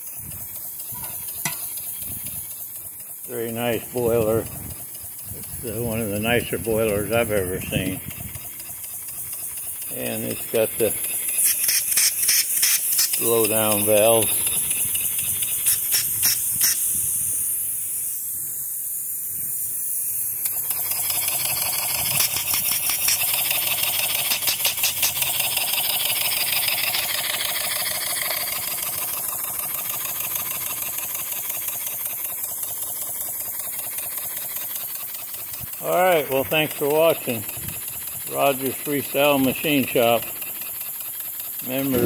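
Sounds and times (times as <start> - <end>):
fast regular pulsing: 0.0 - 42.0
steam engine hissing: 0.0 - 42.0.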